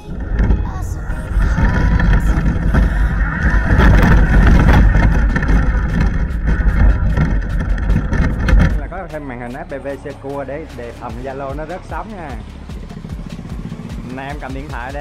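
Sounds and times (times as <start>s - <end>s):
rc car drivetrain and tyre noise: 0.0s - 15.0s.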